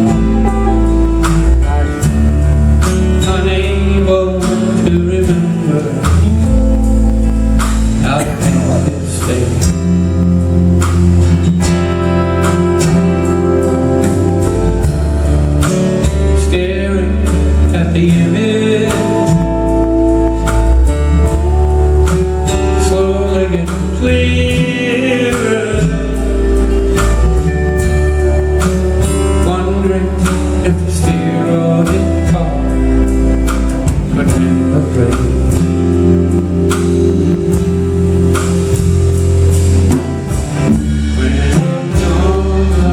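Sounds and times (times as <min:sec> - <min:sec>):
person singing: 0:00.0 - 0:10.7, 0:11.7 - 0:39.0, 0:39.9 - 0:42.9
live band playing: 0:00.0 - 0:42.9.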